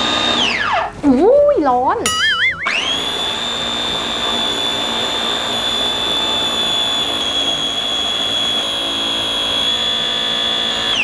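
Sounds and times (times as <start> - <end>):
blender motor whining: 0.0 - 0.9, 2.6 - 11.0.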